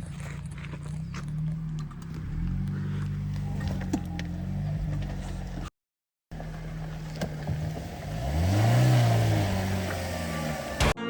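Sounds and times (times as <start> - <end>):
tyres churning mud: 0.0 - 5.6, 6.4 - 11.0
car engine revving: 0.0 - 5.7, 6.4 - 11.0.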